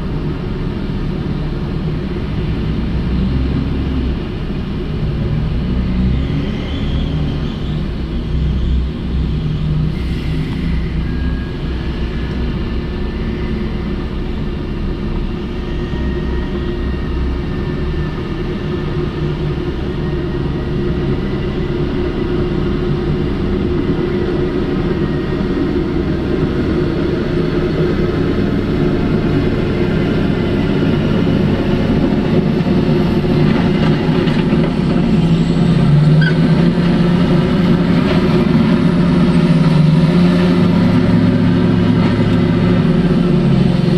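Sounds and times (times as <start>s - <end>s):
heavy diesel machinery engines: 0.0s - 43.9s.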